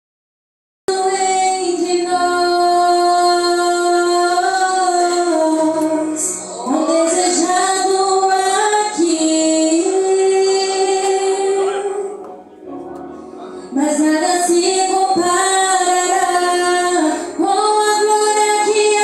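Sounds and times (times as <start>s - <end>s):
woman singing worship song: 0.9s - 12.2s, 13.6s - 19.0s
musical accompaniment: 0.9s - 19.0s.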